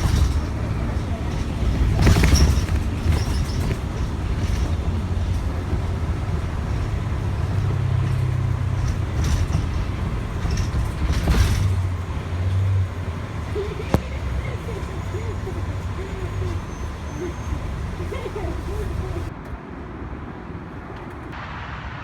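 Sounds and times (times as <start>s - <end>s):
bus knocks and rattles: 0.0s - 19.6s
bus engine and road rumble: 0.0s - 22.0s.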